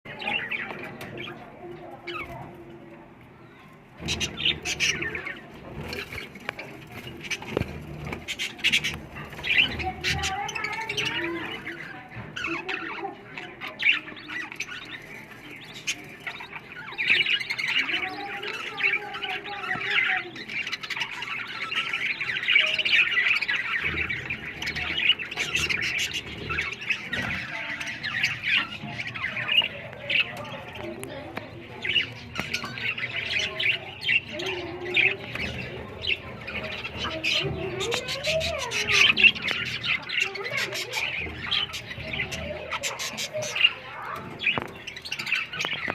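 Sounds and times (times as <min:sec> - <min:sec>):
budgerigars chirping and squawking: 0:00.1 - 0:45.9.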